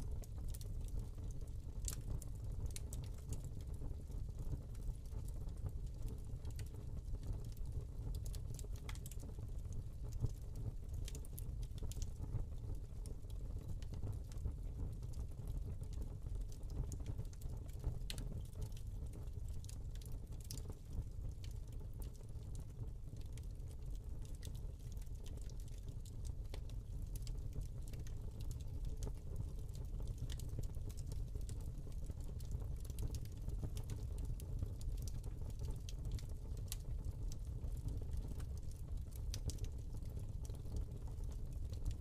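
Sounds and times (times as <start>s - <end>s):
low fire rumble: 0.0s - 42.0s
fire crackling and popping: 0.1s - 14.6s, 15.2s - 42.0s.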